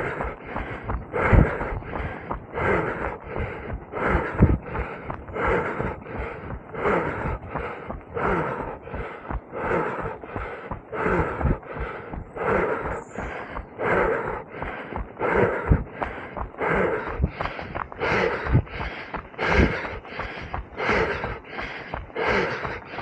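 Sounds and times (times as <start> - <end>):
hard rhythmic breathing: 0.0 - 23.0.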